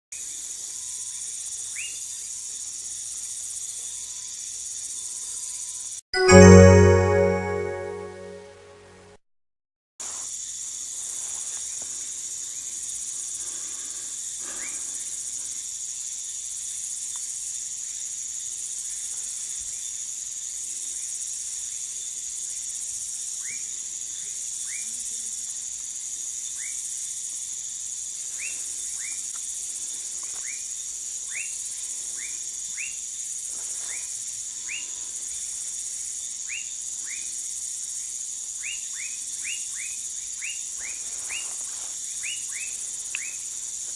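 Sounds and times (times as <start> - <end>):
night insects chorus: 0.2 - 6.0, 10.1 - 43.9.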